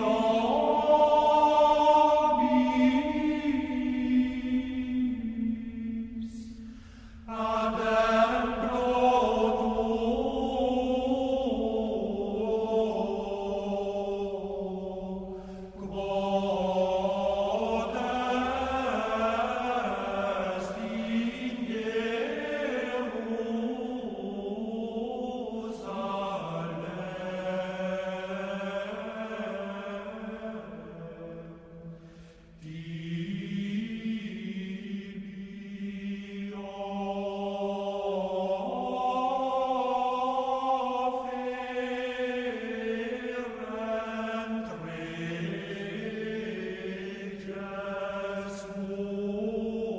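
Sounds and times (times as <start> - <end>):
sung chant: 0.0 - 49.9.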